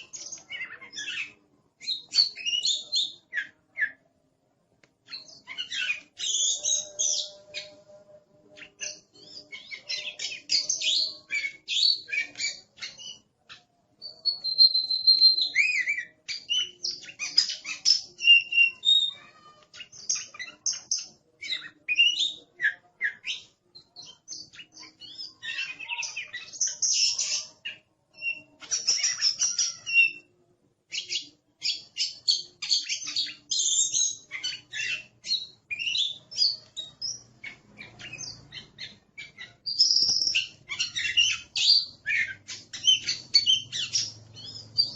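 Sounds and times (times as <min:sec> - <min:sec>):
bird singing: 0:00.0 - 0:04.1, 0:05.0 - 0:44.9.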